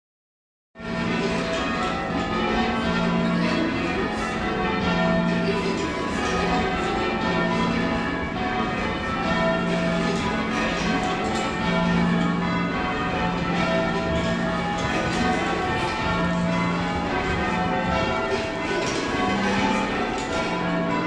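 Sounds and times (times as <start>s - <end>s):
church bells change ringing: 0.8s - 21.0s.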